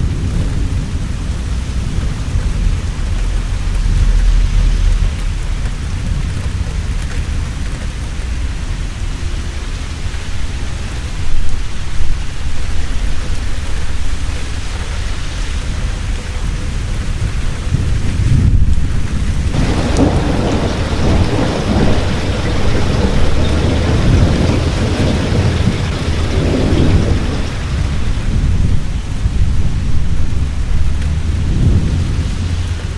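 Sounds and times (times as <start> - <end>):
heavy rain: 0.0 - 32.9
thunder claps: 0.0 - 32.9
thunder rumbling: 0.0 - 32.9.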